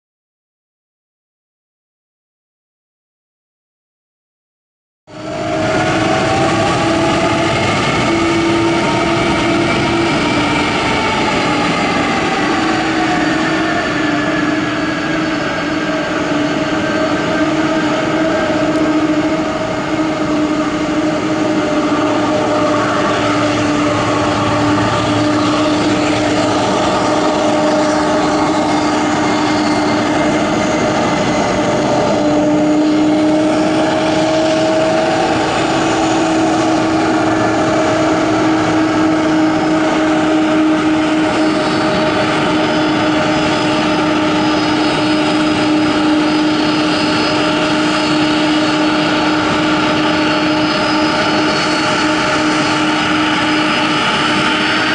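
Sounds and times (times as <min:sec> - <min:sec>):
jet engines whine and rumble: 0:05.1 - 0:54.9.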